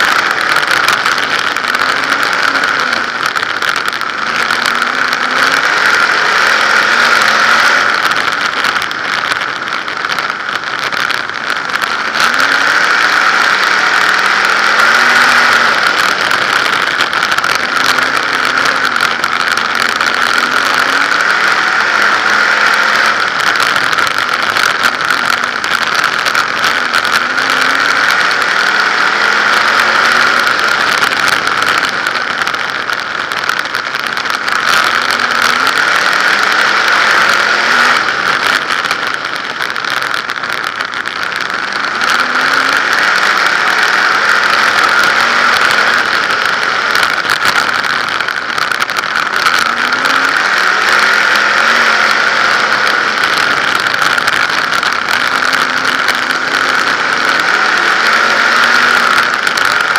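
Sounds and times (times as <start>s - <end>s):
racing car engine: 0.0s - 59.9s
rushing and rattling: 0.0s - 59.9s.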